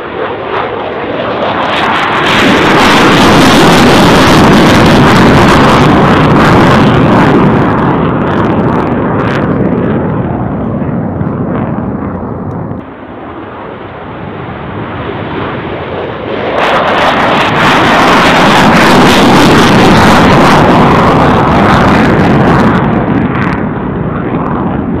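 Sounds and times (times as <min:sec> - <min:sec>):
jet engine roar on takeoff: 0:00.0 - 0:25.0.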